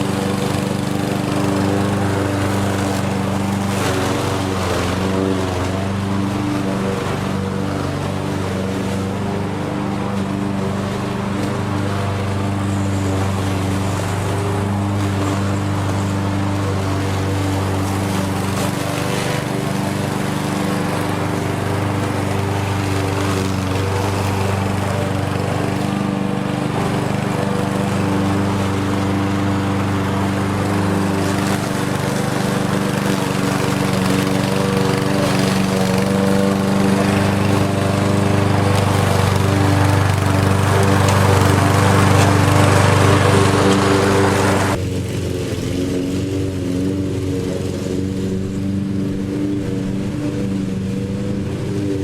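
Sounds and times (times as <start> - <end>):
lawn mower engine running: 0.0 - 52.0.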